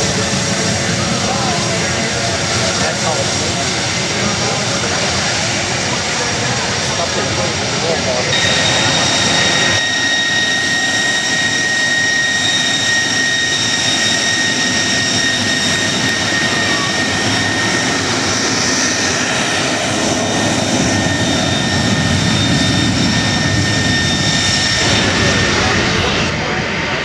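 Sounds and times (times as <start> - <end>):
jet engine whine: 0.0 - 27.0
rushing jet engine noise: 0.0 - 27.0.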